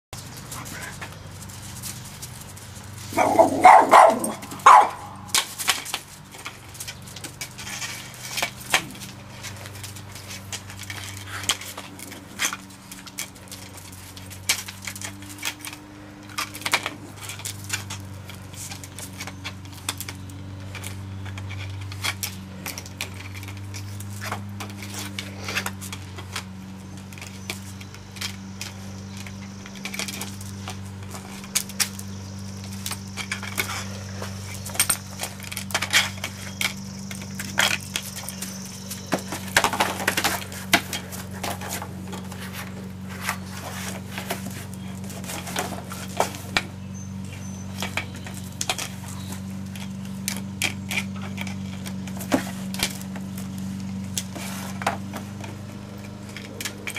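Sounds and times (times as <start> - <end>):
steady low hum: 0.2 - 56.9.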